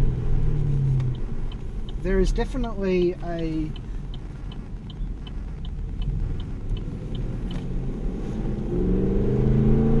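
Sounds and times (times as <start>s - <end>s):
light regular ticking: 0.0s - 8.8s
car engine while driving: 0.0s - 10.0s.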